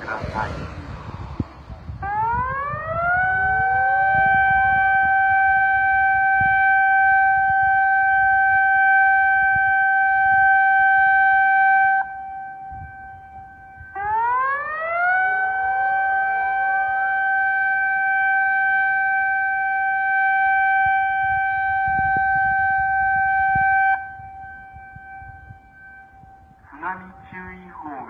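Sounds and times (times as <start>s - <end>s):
distant sirens: 0.0s - 28.0s
warning siren rising tone: 0.0s - 28.0s.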